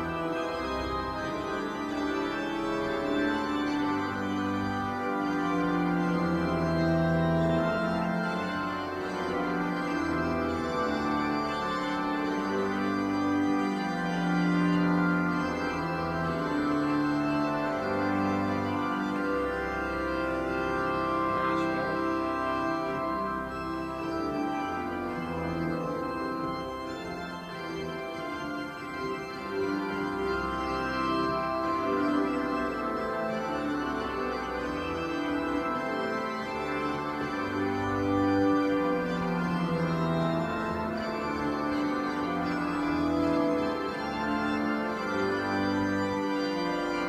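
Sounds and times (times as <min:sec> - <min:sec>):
church organ chords: 0:00.0 - 0:47.0
organ pedal bass notes: 0:00.0 - 0:47.0.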